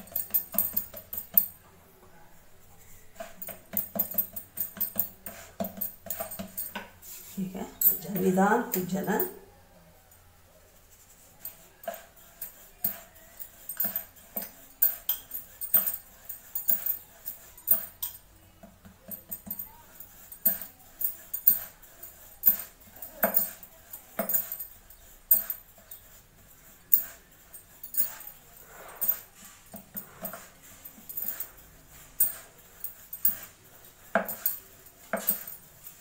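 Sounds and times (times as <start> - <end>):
glass bangles clinking: 0.0 - 1.6, 3.2 - 7.0, 7.7 - 9.4, 11.4 - 26.2, 26.8 - 36.0.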